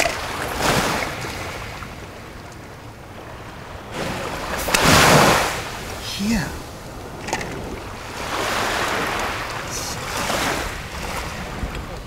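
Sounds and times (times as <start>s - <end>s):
sea waves washing onto beach: 0.0s - 12.0s.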